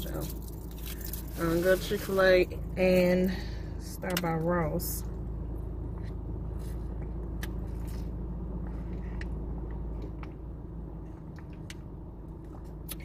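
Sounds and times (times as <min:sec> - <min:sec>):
car engine idling inside cabin: 0:00.0 - 0:13.0.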